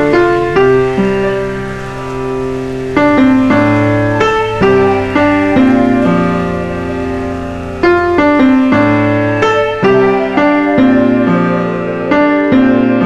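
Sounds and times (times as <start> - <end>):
calm ambient piano music: 0.0 - 13.0.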